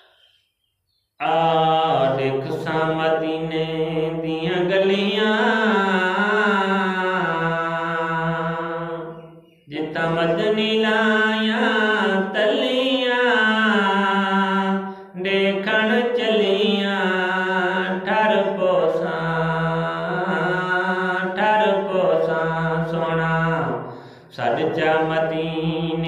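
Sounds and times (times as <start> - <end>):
man singing into microphone: 1.2 - 26.0.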